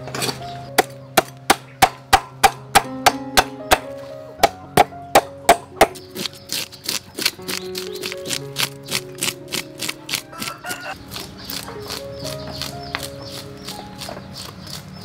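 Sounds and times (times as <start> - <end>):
background music with held notes: 0.0 - 15.0
cleaver chopping on wooden board: 0.2 - 13.1.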